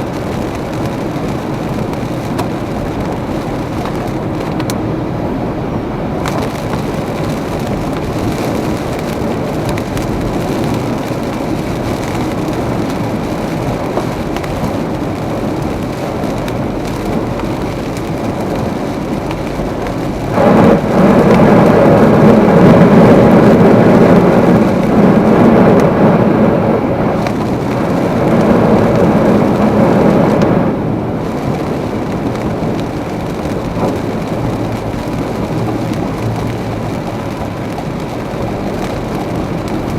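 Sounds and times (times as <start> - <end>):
car tyre noise: 0.0 - 39.9
deep rushing noise: 0.0 - 39.9
heavy rain: 0.0 - 39.9.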